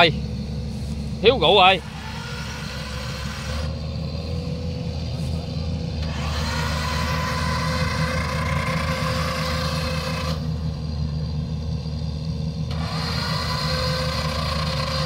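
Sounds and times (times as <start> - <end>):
higher-pitched mechanical noise: 0.0 - 15.0
low engine note: 0.0 - 15.0.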